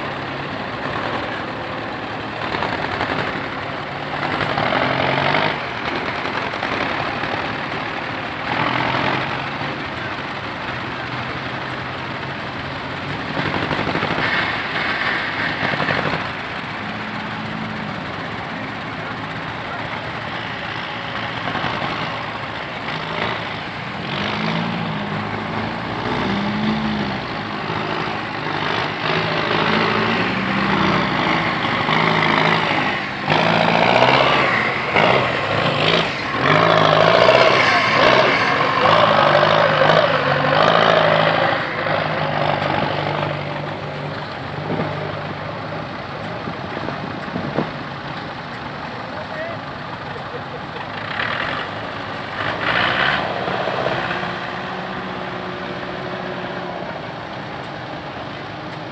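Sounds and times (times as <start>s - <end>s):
close engine with clatter: 0.0s - 58.9s
engines revving: 0.0s - 58.9s
tractor engines idling: 0.0s - 58.9s.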